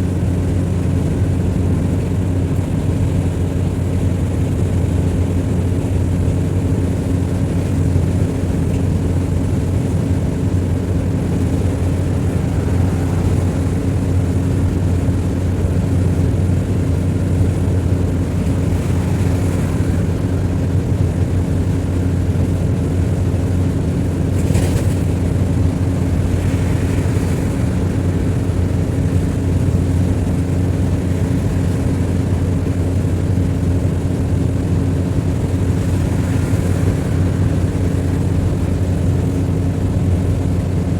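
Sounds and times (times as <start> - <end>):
road noise: 0.0 - 40.9
vehicle engine running: 0.0 - 40.9.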